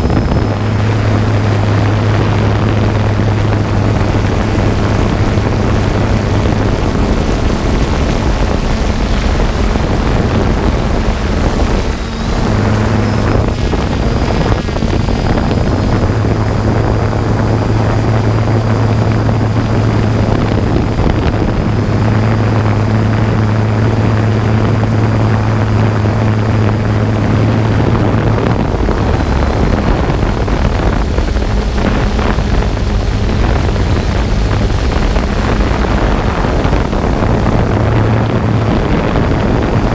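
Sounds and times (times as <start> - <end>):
drone propellers humming: 0.0 - 39.9
rushing wind noise: 0.0 - 39.9.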